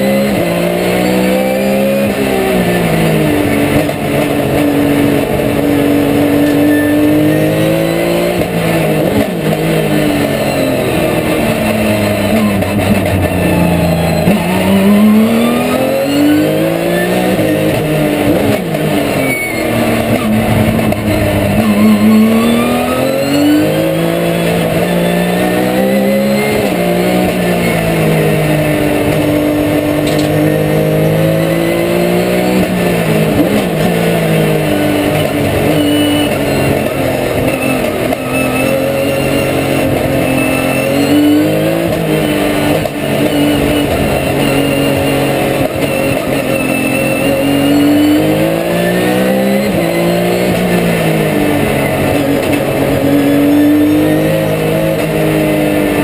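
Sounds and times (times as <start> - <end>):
race car engine at speed: 0.0 - 56.0.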